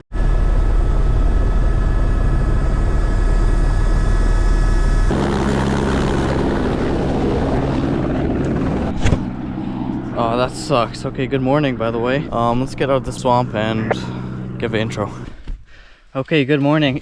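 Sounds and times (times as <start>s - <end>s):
helicopter rotor and engine drone: 0.1s - 15.6s.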